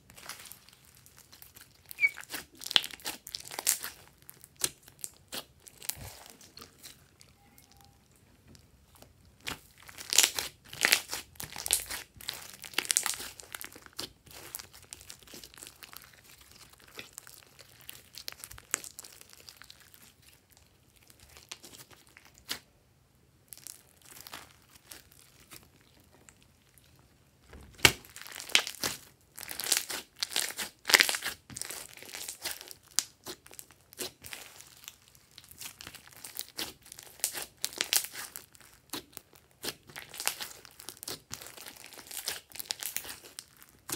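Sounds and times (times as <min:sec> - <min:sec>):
slime squishing crackling: 0:00.0 - 0:22.7, 0:23.4 - 0:43.9.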